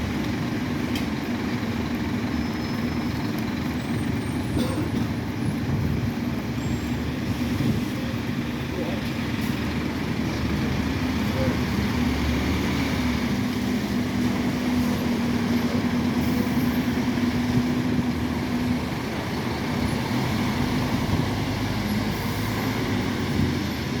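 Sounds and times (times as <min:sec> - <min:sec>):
bus diesel engine droning: 0:00.0 - 0:24.0
traffic rumble: 0:00.0 - 0:24.0.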